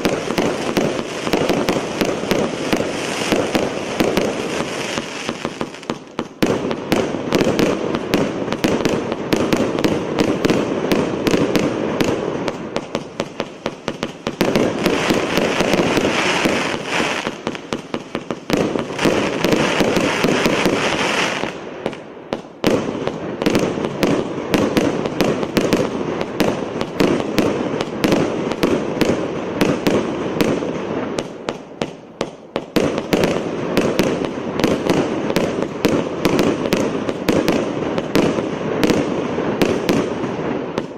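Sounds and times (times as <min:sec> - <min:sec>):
fireworks cake firing: 0:00.0 - 0:40.9.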